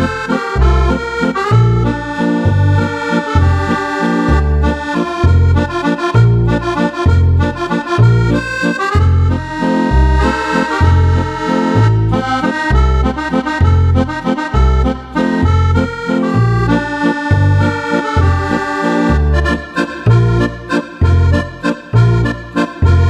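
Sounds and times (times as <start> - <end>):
accordion playing up-tempo tune: 0.0 - 23.0.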